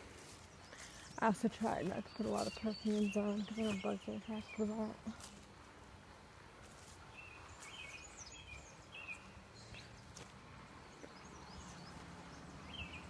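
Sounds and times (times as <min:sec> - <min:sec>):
faint birdsong chirps: 0:00.0 - 0:13.0
quiet outdoor background noise: 0:00.0 - 0:13.0.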